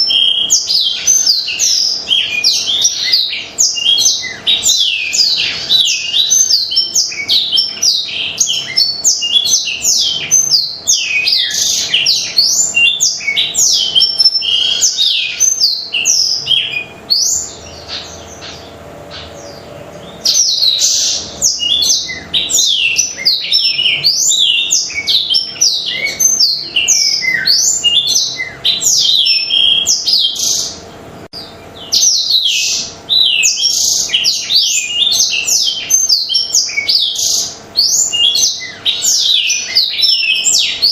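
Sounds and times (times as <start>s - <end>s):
canary twittering song: 0.0s - 40.9s.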